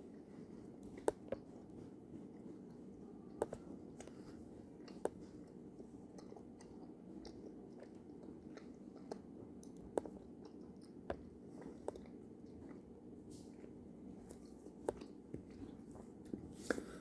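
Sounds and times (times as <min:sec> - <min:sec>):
faint steady hum: 0:00.0 - 0:17.0
person chewing gummy candy: 0:00.1 - 0:15.9.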